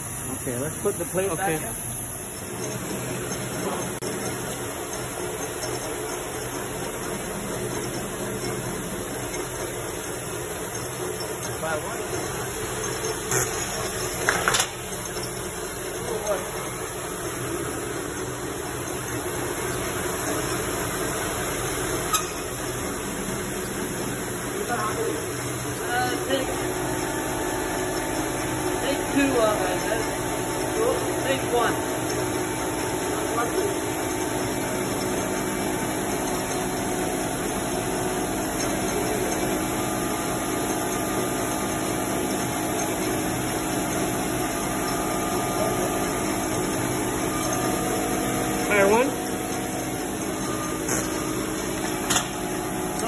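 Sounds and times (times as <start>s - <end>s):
folding machine humming: 0.0s - 53.0s.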